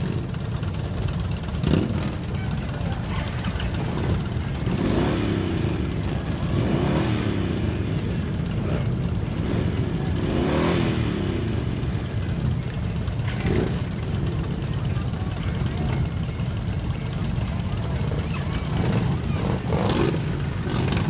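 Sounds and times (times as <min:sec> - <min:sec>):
motorcycle engines revving: 0:00.0 - 0:21.0
motorcycle engines rumbling: 0:00.0 - 0:21.0.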